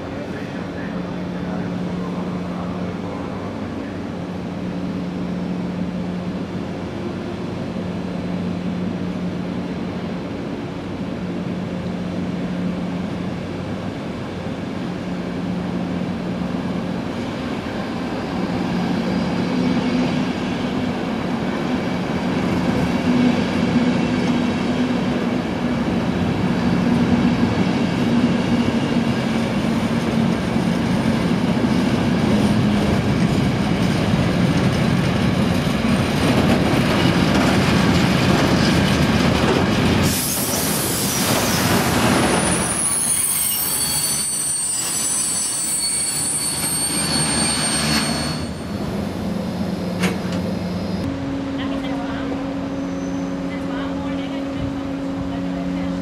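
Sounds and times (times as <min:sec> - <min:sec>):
steady train hum: 0:00.0 - 0:56.0
train wheels rumbling on rails: 0:00.0 - 0:56.0.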